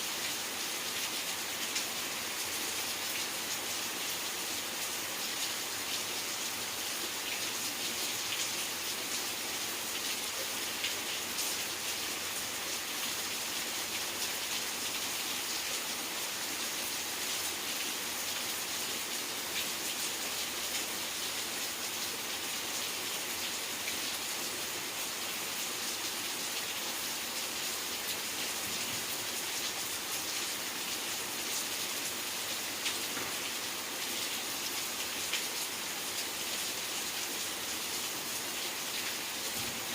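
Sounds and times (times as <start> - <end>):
rain falling: 0.0 - 39.9
raindrops ticking on surfaces: 4.2 - 39.9.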